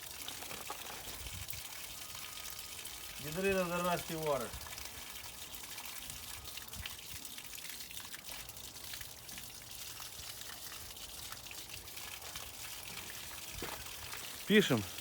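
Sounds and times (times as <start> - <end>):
water pouring and splattering: 0.0 - 15.0.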